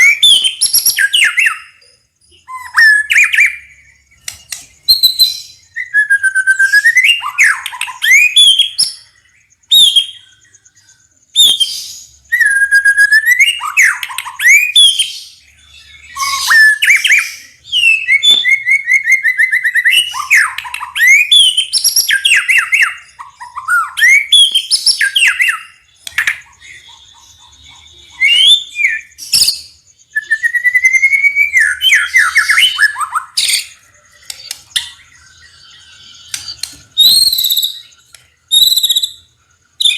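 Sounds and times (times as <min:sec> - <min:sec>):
songbird whistled singing: 0:00.0 - 0:39.9.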